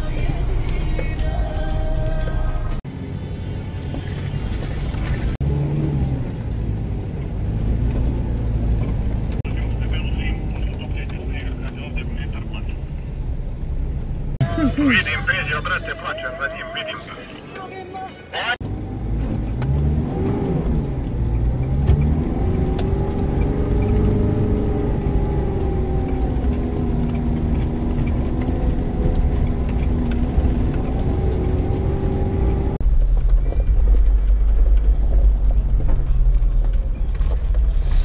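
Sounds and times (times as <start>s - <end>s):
off-road vehicle engine: 0.0s - 38.0s.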